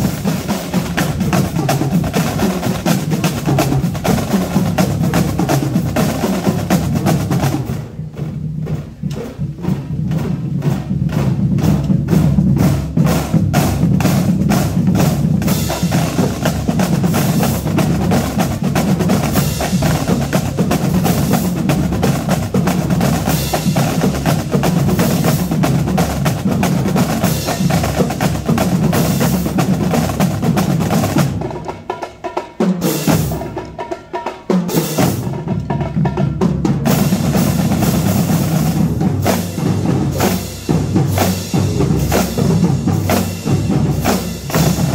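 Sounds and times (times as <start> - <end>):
marching drum line: 0.0 - 44.9.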